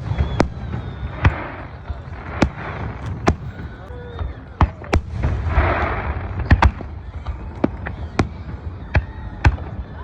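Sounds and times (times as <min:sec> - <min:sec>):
firecracker bangs: 0:00.0 - 0:03.9, 0:04.5 - 0:09.8.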